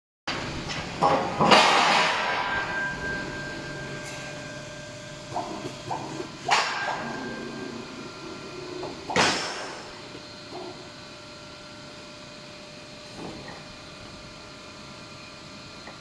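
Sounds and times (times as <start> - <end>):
steady machine hum: 0.3 - 16.0.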